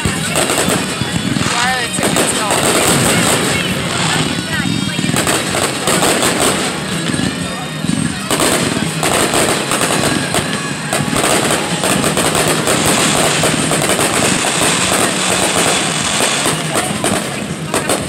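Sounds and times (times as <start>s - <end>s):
firework shells bursting: 0.0s - 18.0s.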